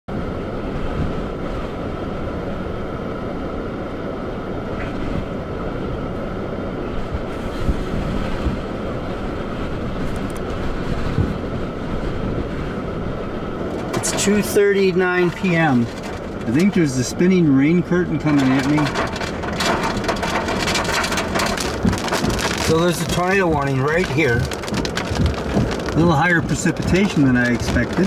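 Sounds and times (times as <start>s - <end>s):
storm wind buffeting microphone: 0.1s - 28.0s.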